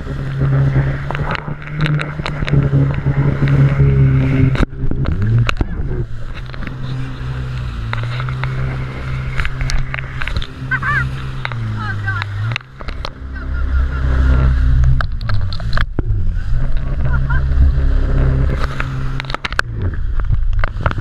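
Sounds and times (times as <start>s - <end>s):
jet ski engine running: 0.0s - 21.0s
water spray slapping hull: 0.0s - 21.0s.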